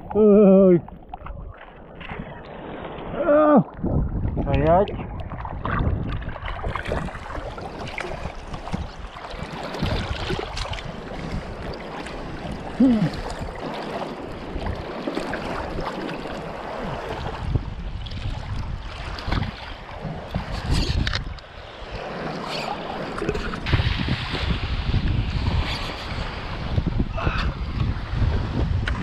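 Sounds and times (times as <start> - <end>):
water splashing and sloshing: 0.0 - 29.0
wind buffeting microphone: 0.0 - 29.0.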